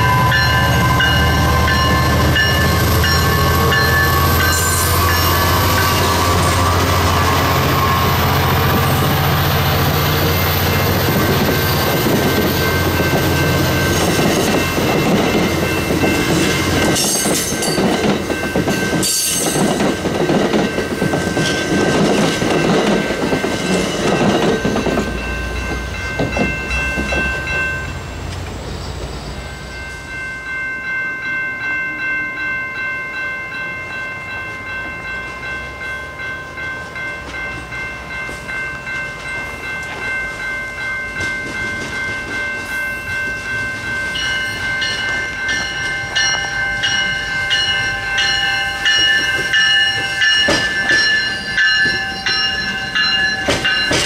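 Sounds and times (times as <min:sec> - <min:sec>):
crossing bell ringing: 0:00.0 - 0:54.0
train coaches rolling past: 0:00.0 - 0:54.0.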